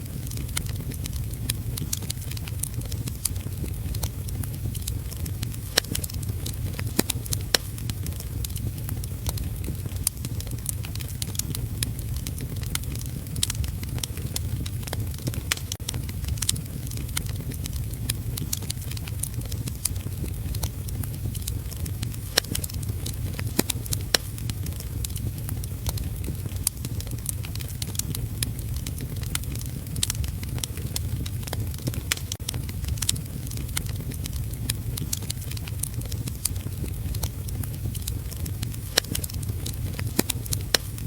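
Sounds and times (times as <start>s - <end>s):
fire crackling and popping: 0.0s - 41.0s
low rumble: 0.0s - 41.0s.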